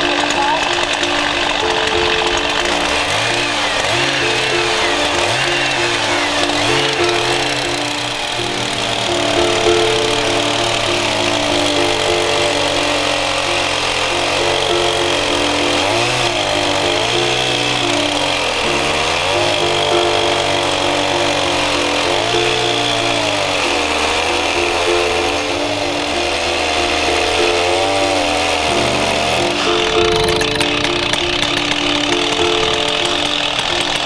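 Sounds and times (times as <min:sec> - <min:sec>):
chainsaw cutting a log: 0:00.0 - 0:34.0.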